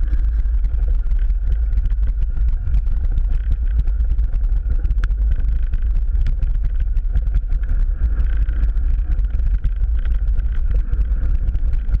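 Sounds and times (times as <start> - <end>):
bike rattles and clicks: 0.0 - 12.0
wind buffeting microphone: 0.0 - 12.0.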